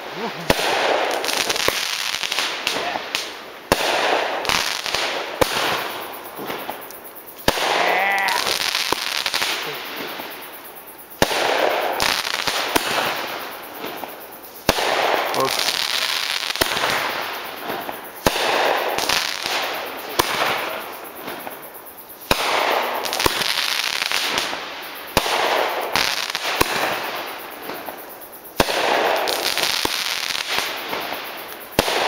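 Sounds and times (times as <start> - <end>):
firework bangs: 0.0 - 6.8, 7.4 - 32.0.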